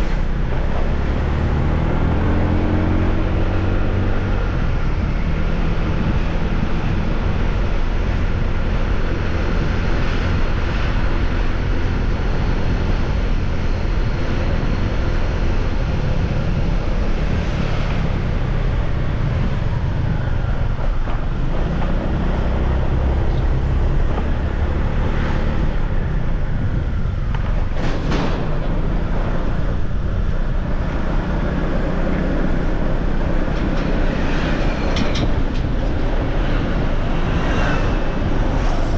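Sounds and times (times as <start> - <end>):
road noise: 0.0 - 38.9
wind rushing over microphone: 0.0 - 38.9.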